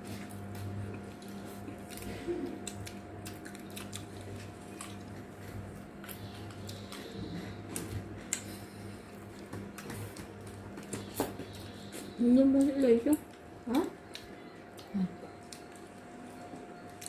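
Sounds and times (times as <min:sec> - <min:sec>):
person eating: 0:00.0 - 0:12.2, 0:13.3 - 0:17.0
low electrical hum: 0:00.0 - 0:17.0.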